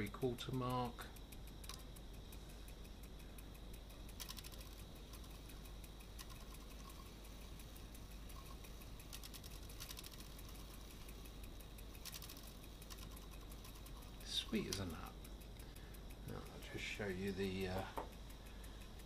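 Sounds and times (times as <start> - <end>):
clock mechanism clicking: 0.0 - 19.0.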